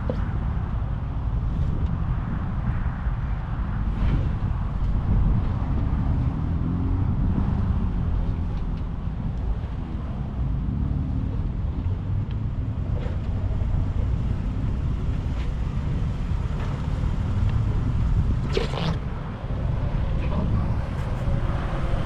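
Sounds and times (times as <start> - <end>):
engine running at low speed: 0.0 - 22.0.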